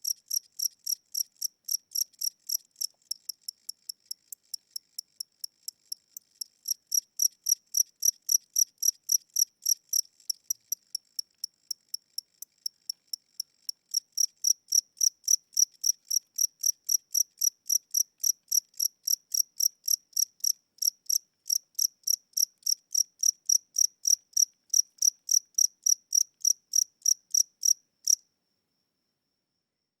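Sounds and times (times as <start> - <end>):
cricket chirping: 0.0 - 29.6.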